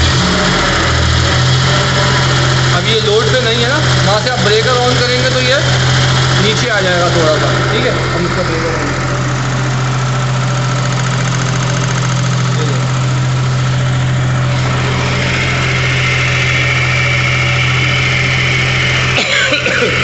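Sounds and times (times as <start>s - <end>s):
generator humming: 0.0s - 20.0s
high steady whine: 0.0s - 20.0s.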